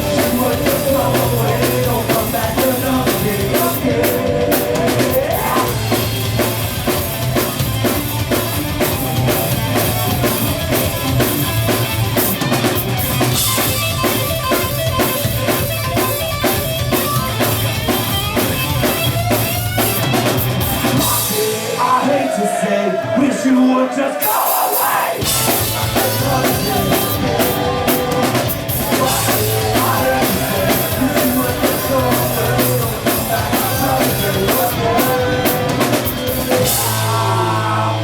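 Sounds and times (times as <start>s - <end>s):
rock band playing live: 0.0s - 23.5s, 24.1s - 38.0s
drum kit pounding: 0.0s - 23.6s, 24.2s - 38.0s.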